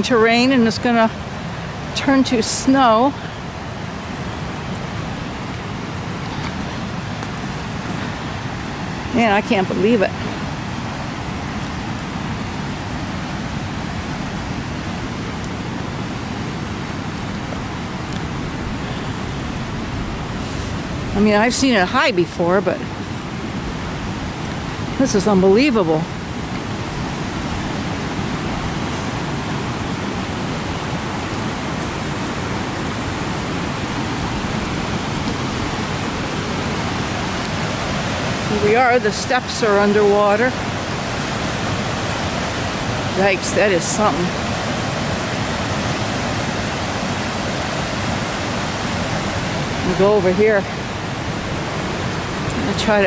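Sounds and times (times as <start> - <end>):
river rushing: 0.0 - 53.0.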